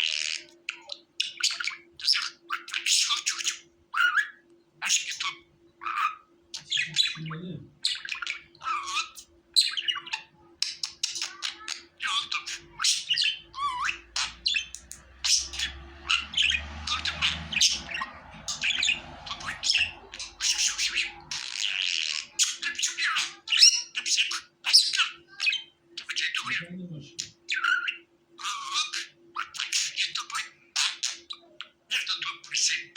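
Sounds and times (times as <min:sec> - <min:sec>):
budgerigars chattering: 0:00.0 - 0:32.9.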